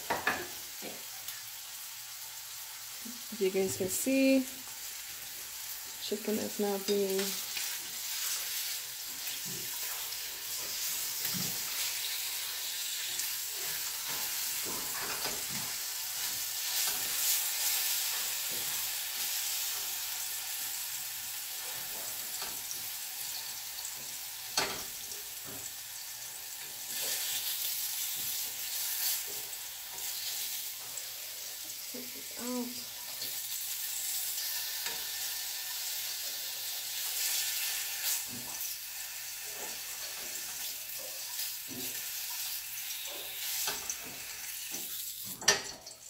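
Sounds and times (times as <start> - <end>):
chicken sizzling in hot oil: 0.0 - 46.0.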